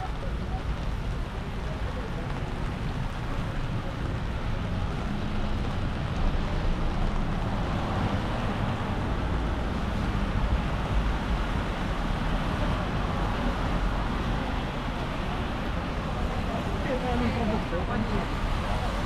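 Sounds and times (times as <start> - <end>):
traffic on a wet road: 0.0 - 19.0.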